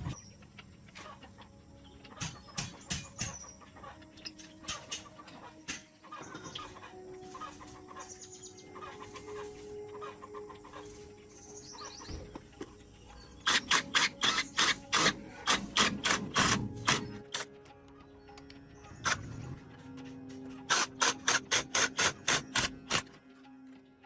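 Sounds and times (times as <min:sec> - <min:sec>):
chickens clucking: 0:00.0 - 0:23.3.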